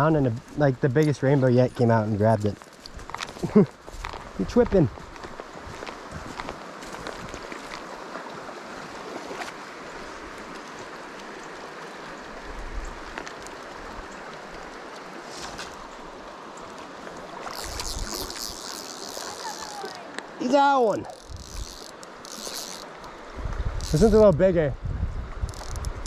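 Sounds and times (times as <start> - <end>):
creek water running over rocks: 0.0 - 26.0.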